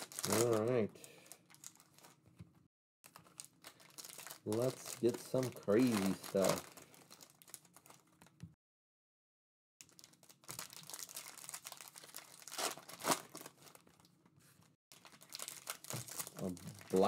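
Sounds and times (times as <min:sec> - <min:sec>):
foil wrappers crinkling and tearing: 0:00.0 - 0:02.2, 0:03.0 - 0:08.3, 0:09.8 - 0:14.1, 0:14.9 - 0:17.0.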